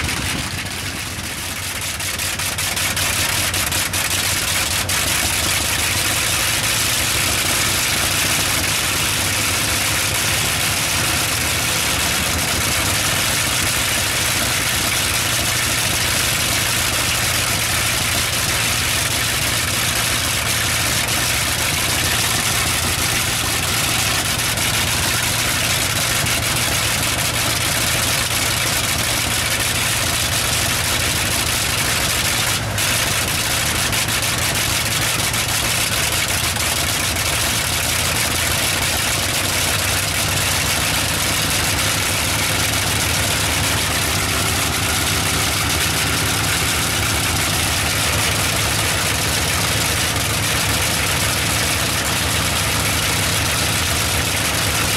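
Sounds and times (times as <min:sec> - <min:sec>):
radial aircraft engine running: 0:00.0 - 0:54.9.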